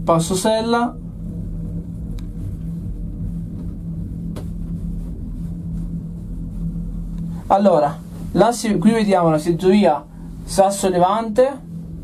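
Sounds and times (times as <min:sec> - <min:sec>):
constant hum: 0:00.0 - 0:12.0
gondola cabin rumble: 0:00.0 - 0:12.0.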